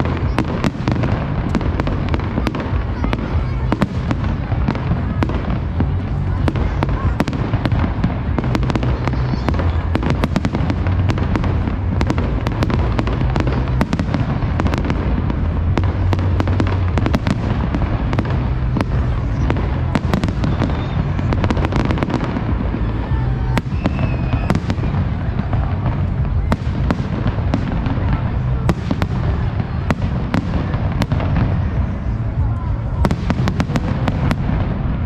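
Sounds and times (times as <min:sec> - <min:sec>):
fireworks cracking and banging: 0:00.0 - 0:35.0
low rumble: 0:00.0 - 0:35.0.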